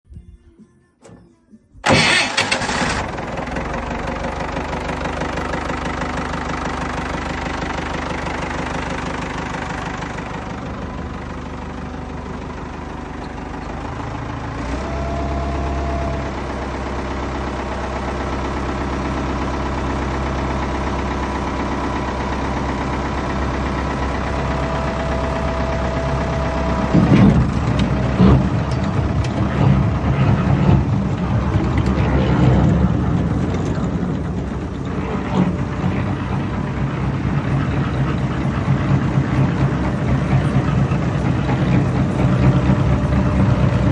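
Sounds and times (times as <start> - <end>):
tractor engine idling: 1.8 - 43.9.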